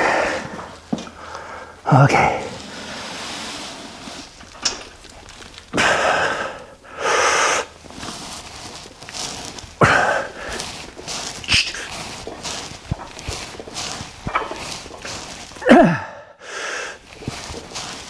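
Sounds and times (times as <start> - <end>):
heavy effortful breathing: 0.0 - 4.4, 5.6 - 18.0.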